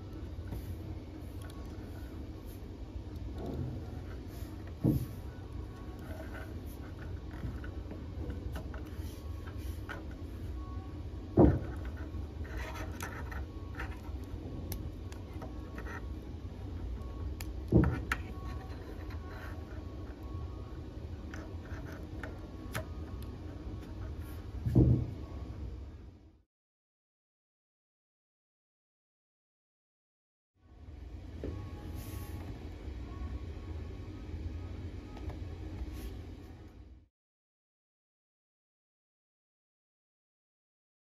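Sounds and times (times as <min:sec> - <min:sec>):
steady low hum: 0:00.0 - 0:26.4, 0:30.6 - 0:37.1.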